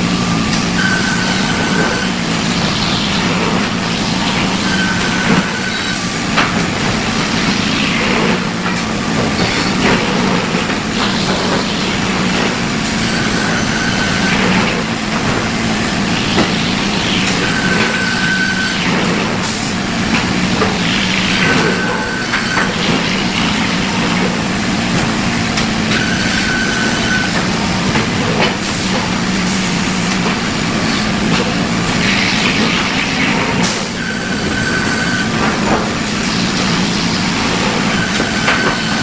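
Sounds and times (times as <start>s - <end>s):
sawmill machinery hum: 0.0s - 39.0s.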